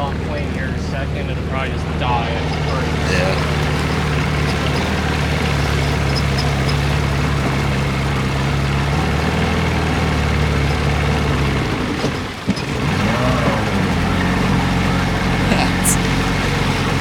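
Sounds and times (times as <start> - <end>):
outboard motor running: 0.0 - 15.4
wind: 0.0 - 17.0.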